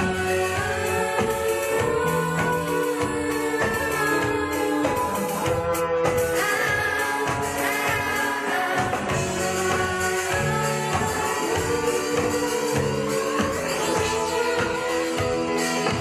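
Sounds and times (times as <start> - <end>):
band playing a song: 0.0 - 16.0
person singing: 0.0 - 16.0.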